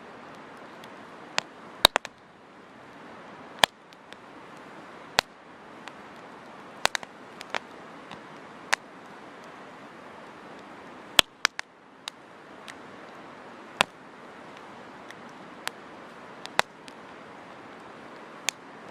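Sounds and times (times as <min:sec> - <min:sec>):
soft hiss of flames: 0:00.0 - 0:18.9
burning wood popping: 0:00.3 - 0:18.9.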